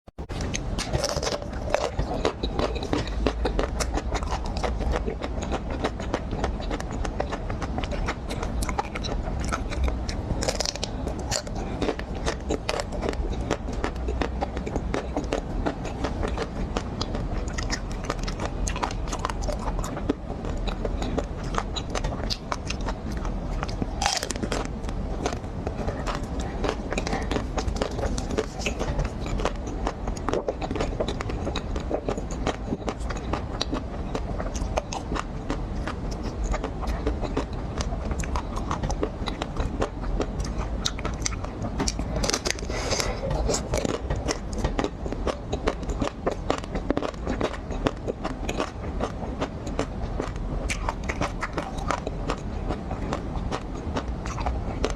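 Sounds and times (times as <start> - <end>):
chewing crunchy chocolate shell: 0.3 - 54.9.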